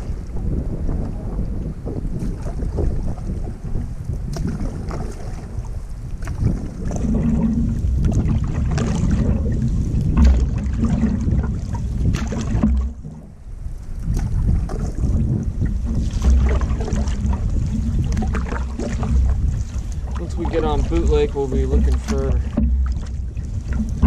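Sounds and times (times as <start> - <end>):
water lapping against canoe: 0.0 - 24.0
wind on microphone: 0.0 - 24.0.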